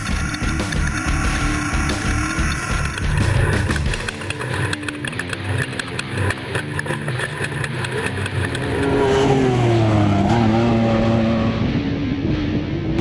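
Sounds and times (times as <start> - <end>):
engine crackle: 0.0 - 13.0
off-road vehicle engine running hard: 0.0 - 13.0.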